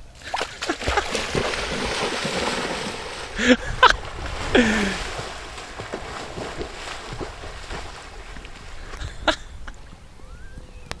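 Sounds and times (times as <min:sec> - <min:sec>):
swimming splashes: 0:00.0 - 0:10.0.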